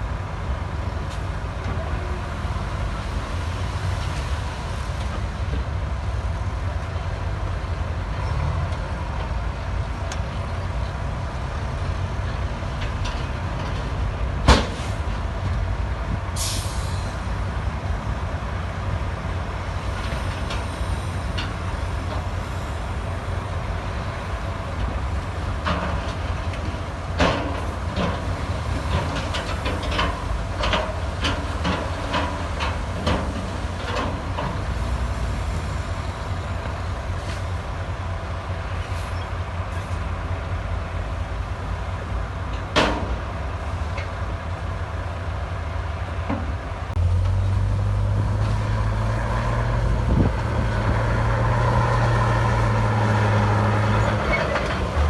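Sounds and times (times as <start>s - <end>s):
diesel machinery running: 0.0s - 55.0s.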